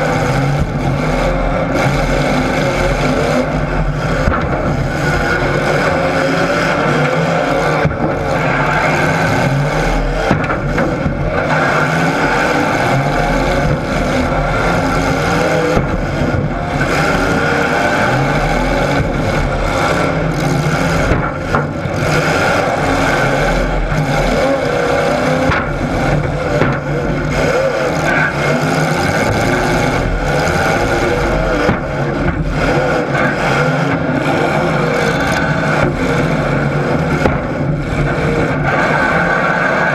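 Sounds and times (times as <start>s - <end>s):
vehicle engines revving: 0.0s - 39.9s.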